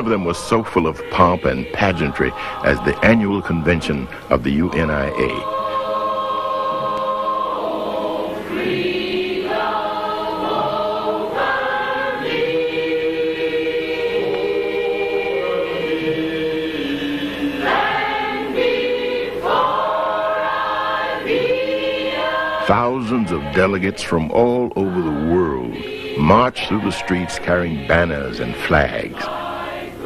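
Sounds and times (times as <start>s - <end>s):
choir singing sustained notes: 0.0s - 30.0s.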